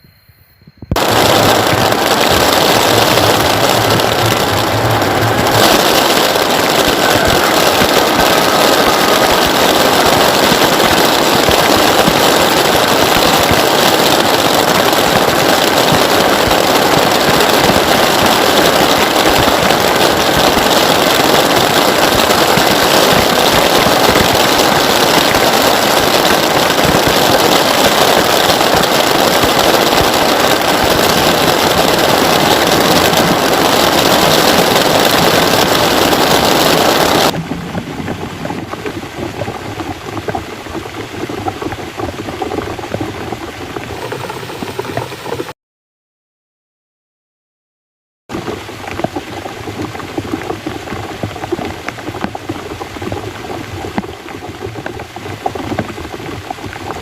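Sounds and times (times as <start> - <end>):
heavy rain falling: 1.0 - 45.5, 48.3 - 57.0.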